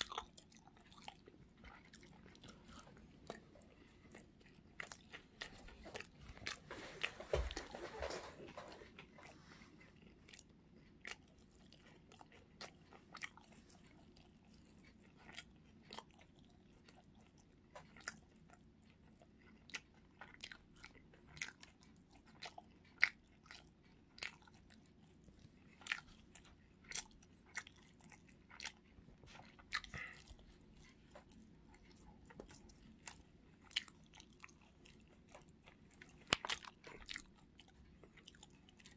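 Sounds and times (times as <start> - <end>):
person chewing crisp food: 0.0 - 38.9.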